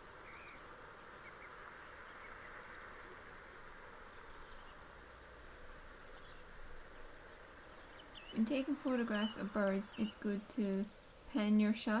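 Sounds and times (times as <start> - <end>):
distant birds calling: 0.0 - 11.3
steady background hiss: 0.0 - 12.0.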